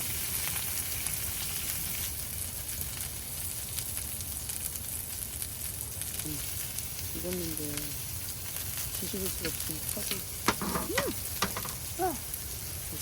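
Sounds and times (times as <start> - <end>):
fat crackling and spattering: 0.0 - 13.0
food sizzling in a hot pan: 0.0 - 13.0.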